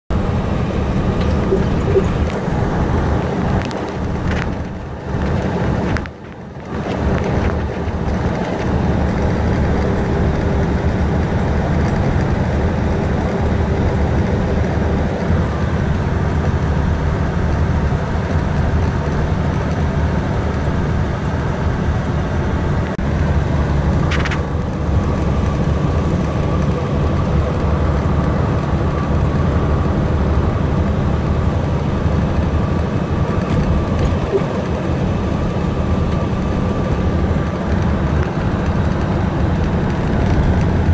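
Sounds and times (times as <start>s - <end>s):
diesel truck engine idling: 0.1s - 6.6s, 12.4s - 40.9s.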